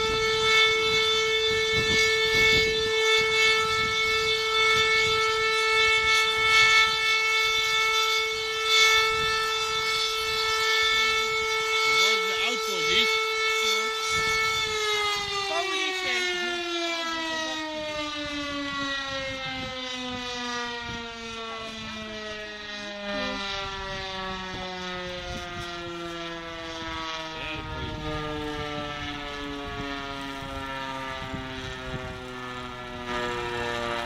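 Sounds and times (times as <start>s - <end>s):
siren wail falling in pitch: 0.0s - 34.0s.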